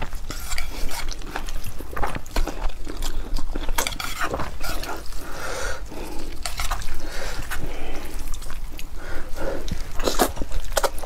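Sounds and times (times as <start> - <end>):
chewing and slurping noodles: 0.0 - 11.0.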